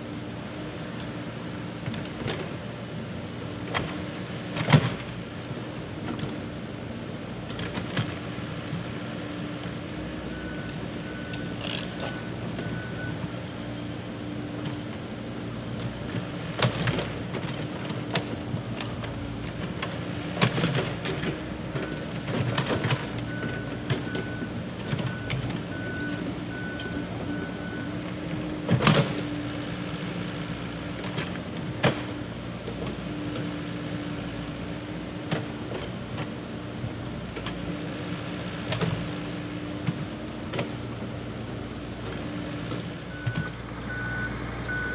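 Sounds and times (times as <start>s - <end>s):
excavator engine running: 0.1s - 44.9s.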